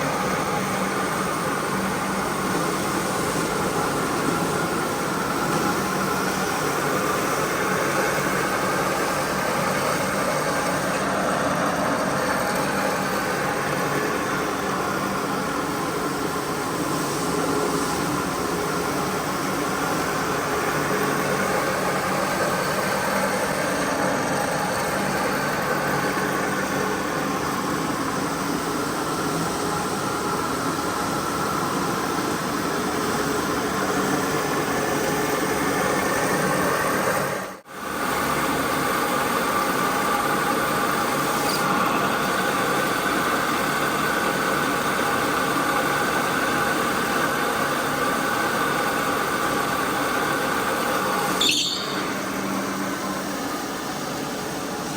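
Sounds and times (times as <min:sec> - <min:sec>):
cleaning machine motor humming: 0:00.0 - 0:54.9.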